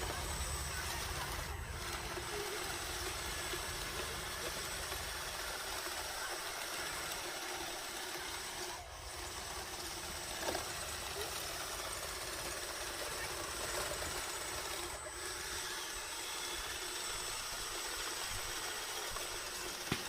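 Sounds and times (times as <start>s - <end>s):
faint high whine: 0.0s - 19.8s
model bulldozer mechanical hum: 0.0s - 20.0s.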